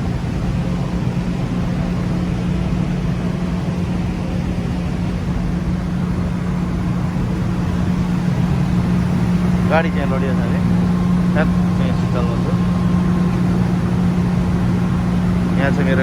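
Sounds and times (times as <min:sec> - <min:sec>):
ship diesel engines droning: 0:00.0 - 0:16.0.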